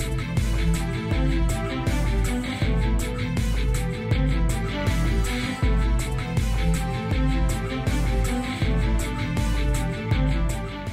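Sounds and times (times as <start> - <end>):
music with deep bass beat: 0.0 - 10.9.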